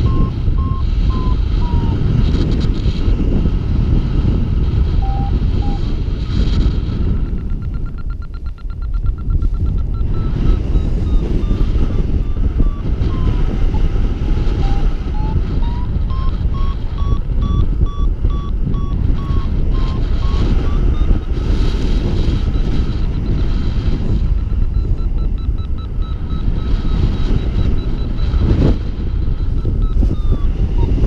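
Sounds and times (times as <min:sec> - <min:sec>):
variometer short beeps: 0:00.0 - 0:03.0, 0:04.8 - 0:31.0
wind noise on microphone: 0:00.0 - 0:31.0.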